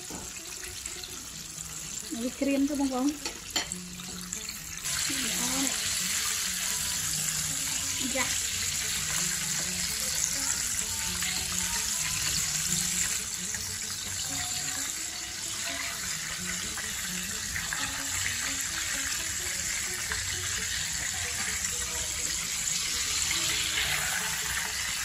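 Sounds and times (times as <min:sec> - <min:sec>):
chicken deep-frying in hot oil: 0:00.0 - 0:25.0.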